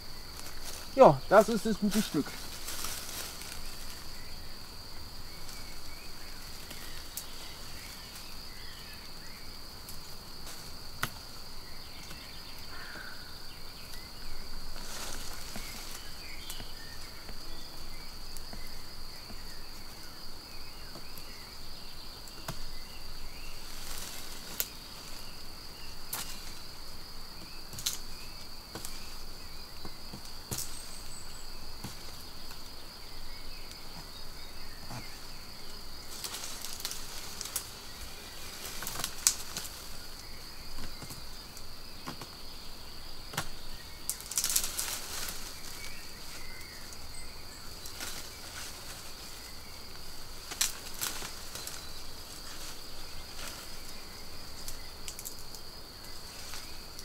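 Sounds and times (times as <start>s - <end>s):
insect trilling: 0.0s - 57.0s.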